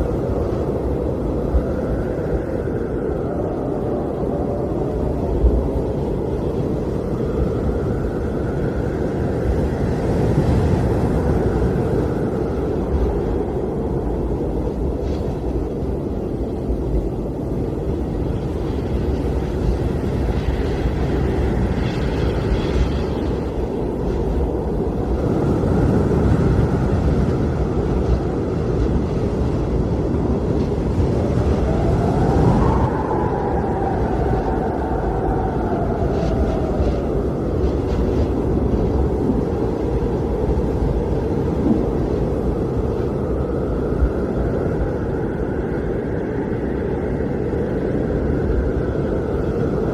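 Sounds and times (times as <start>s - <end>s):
blizzard wind blowing: 0.0s - 49.9s.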